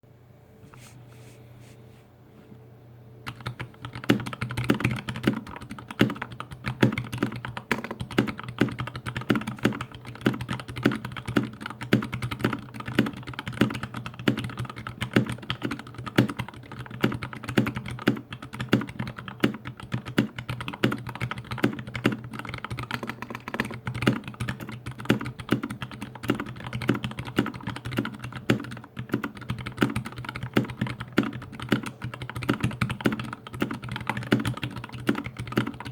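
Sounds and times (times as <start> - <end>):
mechanical keyboard typing: 3.2 - 35.9.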